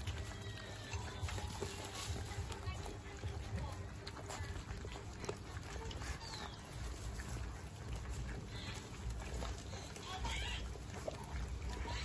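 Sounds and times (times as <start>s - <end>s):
puppies lapping and chewing: 0.0s - 12.0s.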